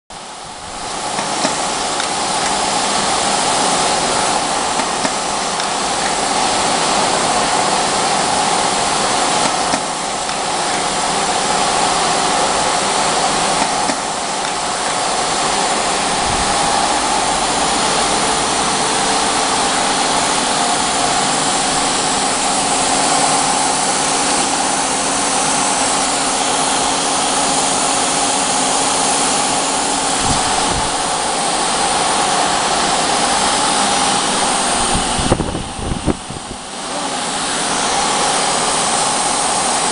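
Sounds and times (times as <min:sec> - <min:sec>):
workshop machinery drone: 0:00.1 - 0:39.9.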